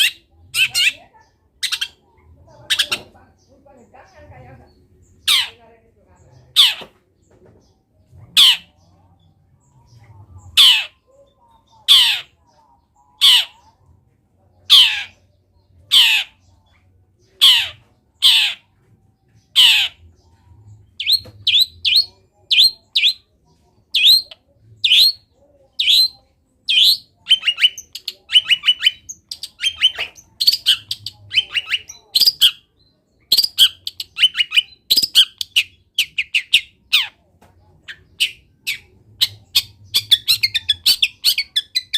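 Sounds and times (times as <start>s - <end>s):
bird chattering mimicry: 0.0s - 4.2s, 4.8s - 5.6s, 8.3s - 9.0s, 9.8s - 13.8s, 14.6s - 18.8s, 19.4s - 37.2s, 37.8s - 41.9s.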